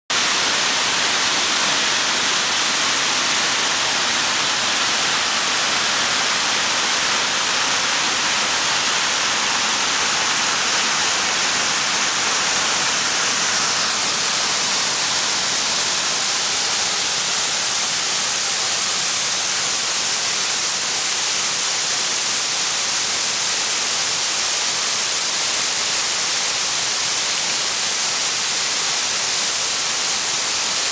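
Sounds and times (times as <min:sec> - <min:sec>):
water rushing down a waterfall: 0:00.1 - 0:30.9.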